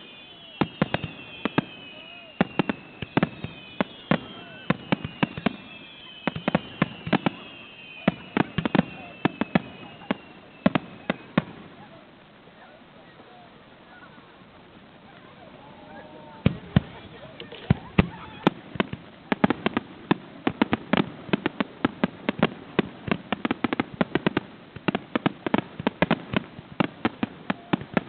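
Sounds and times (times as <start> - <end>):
fireworks bangs: 0.0 - 28.0
whistling fireworks: 0.0 - 28.0.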